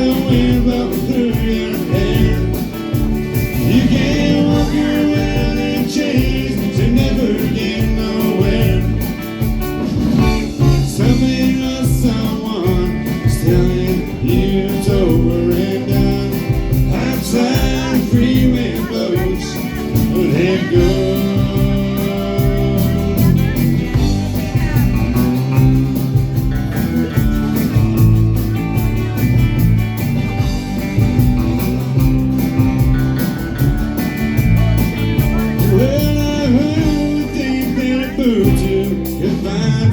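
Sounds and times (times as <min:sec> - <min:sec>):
person singing: 0:00.0 - 0:09.6, 0:10.2 - 0:28.0, 0:32.6 - 0:39.9
bass: 0:00.0 - 0:39.9
drums: 0:00.0 - 0:39.9
guitar: 0:00.0 - 0:39.9.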